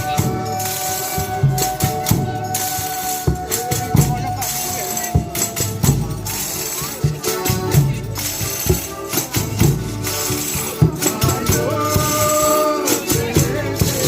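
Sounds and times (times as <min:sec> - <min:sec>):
drum strikes: 0:00.0 - 0:14.0
tambourine shaking and beating: 0:00.0 - 0:14.0.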